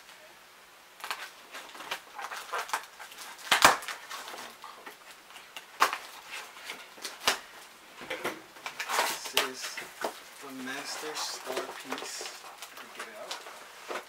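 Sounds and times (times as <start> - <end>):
packaging rustling and tearing: 1.0 - 7.7, 8.6 - 14.0.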